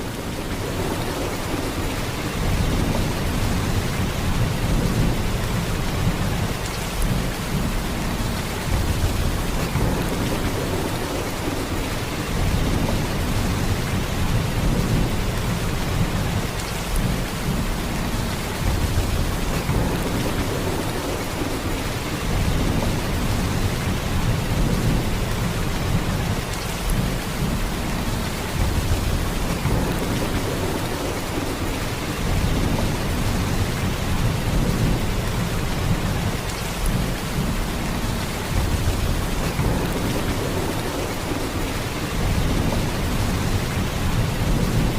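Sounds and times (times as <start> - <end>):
heavy rain downpour: 0.0 - 44.9.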